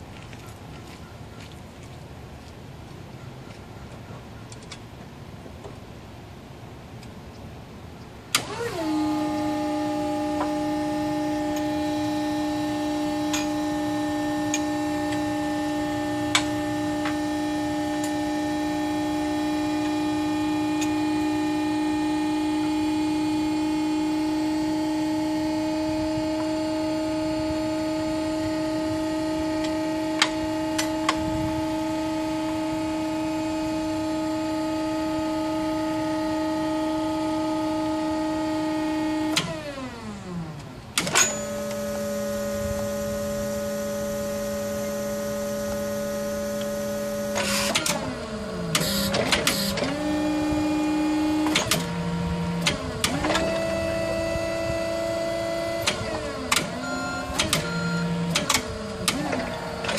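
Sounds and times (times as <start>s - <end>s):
hydraulic pump whining: 8.3s - 59.9s.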